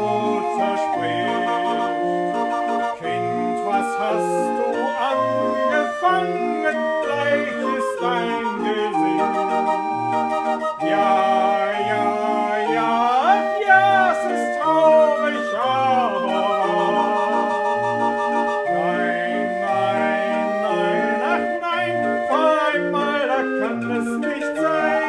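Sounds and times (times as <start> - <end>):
barrel organ melody: 0.0 - 25.0.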